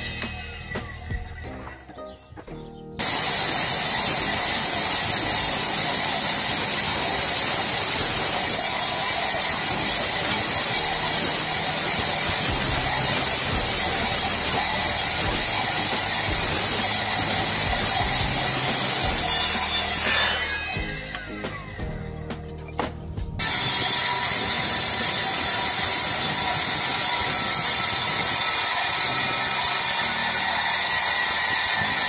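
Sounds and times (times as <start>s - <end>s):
mitre saw cutting steel: 0.0s - 1.8s, 3.0s - 22.1s, 23.4s - 32.0s.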